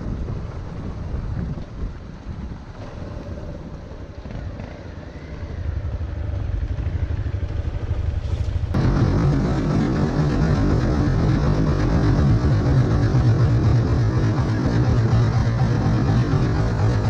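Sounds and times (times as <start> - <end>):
wind buffeting microphone: 0.0 - 17.0
motorcycle engine running: 0.1 - 17.0.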